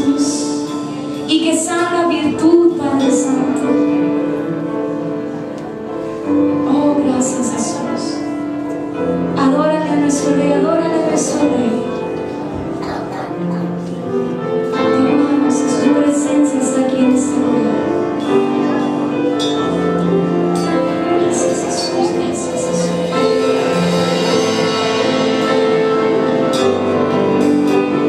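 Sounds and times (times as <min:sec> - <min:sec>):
sustained instrumental chords: 0:02.8 - 0:28.0.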